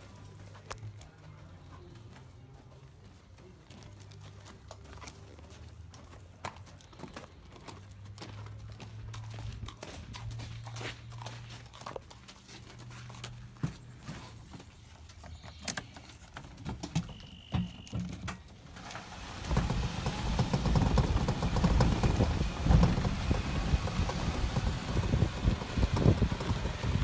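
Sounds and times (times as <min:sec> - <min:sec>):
hoofbeats on dirt: 0:00.0 - 0:27.0
small vehicle driving over dirt: 0:03.5 - 0:27.0.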